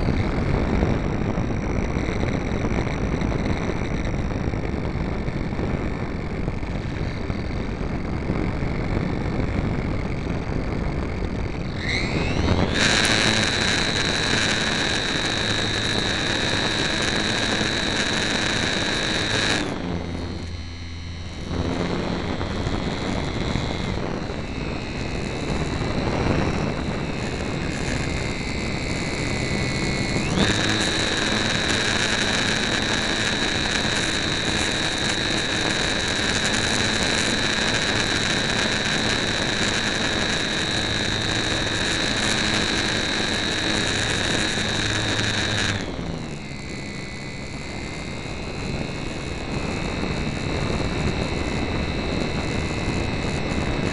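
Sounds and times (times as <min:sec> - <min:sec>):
electric motor and propeller whining: 0:00.0 - 0:53.9.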